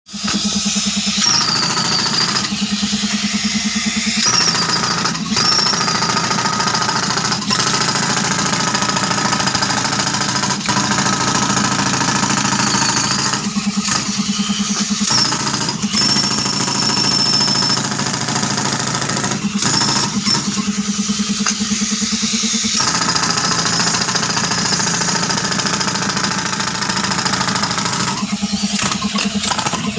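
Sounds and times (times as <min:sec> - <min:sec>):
air compressor engine running: 0:00.1 - 0:29.9
jackhammer hammering rock: 0:00.1 - 0:29.9.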